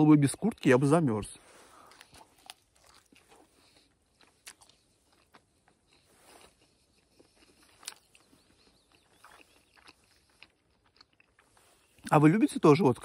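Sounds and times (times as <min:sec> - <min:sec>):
person chewing: 0:01.6 - 0:12.2.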